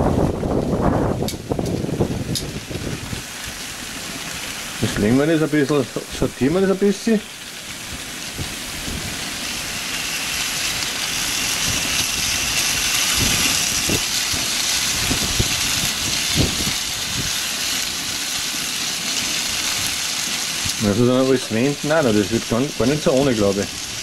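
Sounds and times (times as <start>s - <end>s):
potatoes sizzling on grill: 0.0s - 24.0s.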